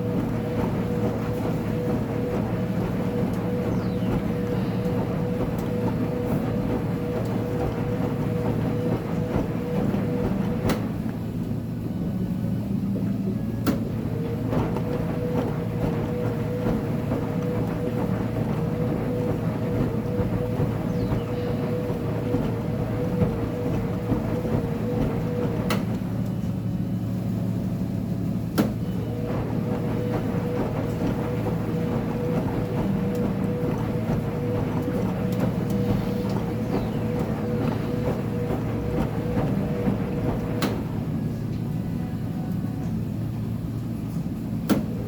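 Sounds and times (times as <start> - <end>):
constant mechanical whine: 0.0 - 45.0
washing machine rumble: 0.0 - 45.0.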